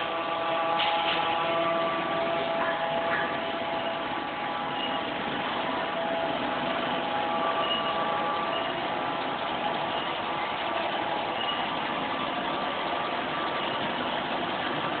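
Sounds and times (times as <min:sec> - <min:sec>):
extruder machine running: 0:00.0 - 0:15.0.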